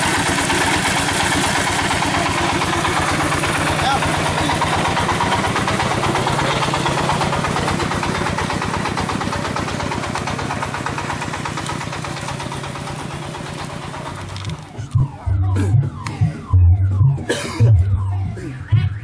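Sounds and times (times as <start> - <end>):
diesel engine chugging: 0.0 - 19.0.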